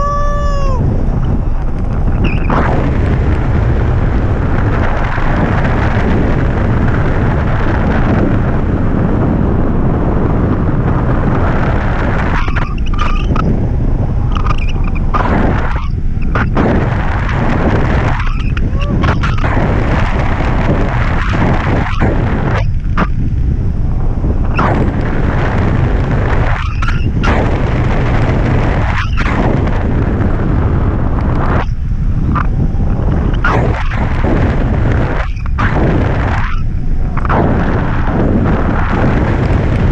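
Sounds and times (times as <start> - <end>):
wind rumbling on microphone: 0.0 - 39.9.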